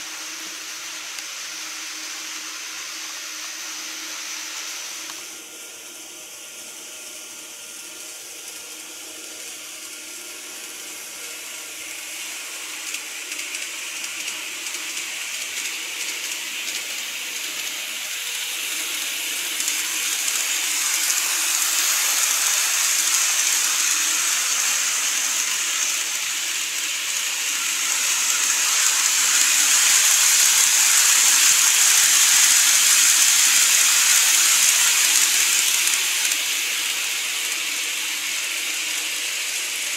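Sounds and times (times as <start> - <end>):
model train whirring on track: 0.0 - 39.9.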